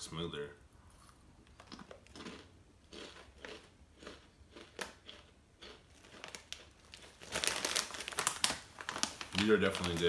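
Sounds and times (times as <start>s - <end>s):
chips being chewed: 0.9s - 9.9s
chip bag crinkling: 1.6s - 10.0s.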